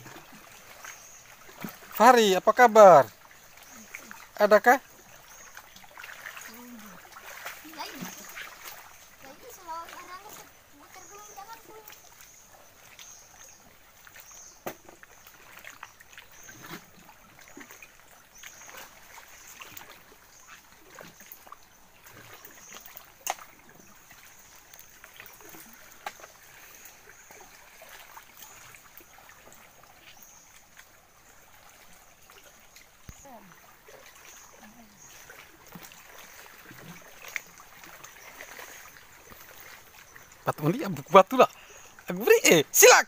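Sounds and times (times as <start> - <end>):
water lapping and trickling: 0.0 - 43.0.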